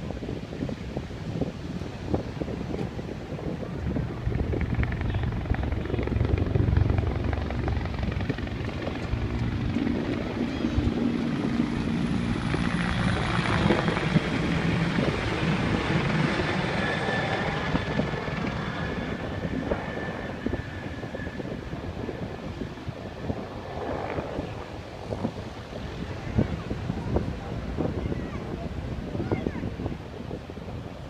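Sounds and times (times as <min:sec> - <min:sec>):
aircraft flying past: 0:02.1 - 0:30.8.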